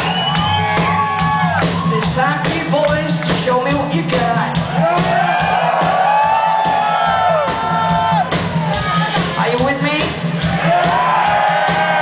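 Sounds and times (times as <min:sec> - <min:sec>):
live rock band: 0:00.0 - 0:12.0.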